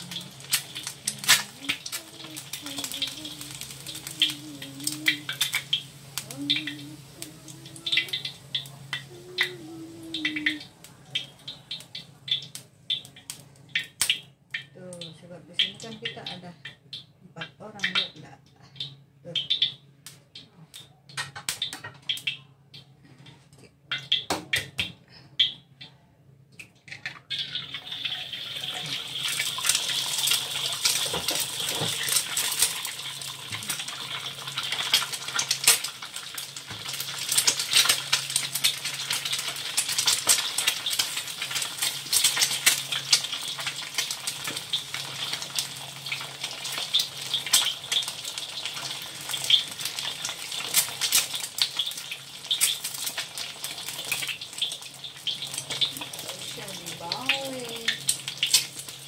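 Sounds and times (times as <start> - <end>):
hot oil sizzling and popping: 0.0 - 22.9, 23.8 - 25.9, 26.6 - 59.0.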